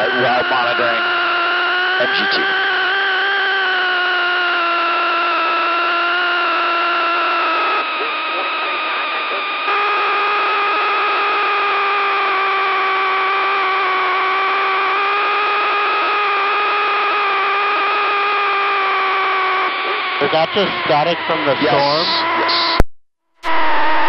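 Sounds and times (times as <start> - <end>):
humming whine of radio static: 0.0 - 22.8.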